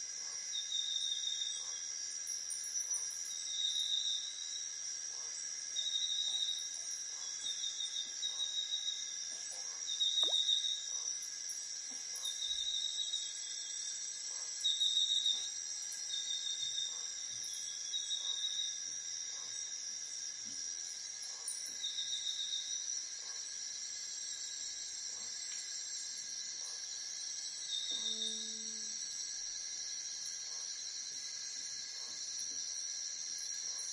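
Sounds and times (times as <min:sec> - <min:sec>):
buzzy insect calls: 0:00.0 - 0:33.9
forest insects droning: 0:00.0 - 0:33.9.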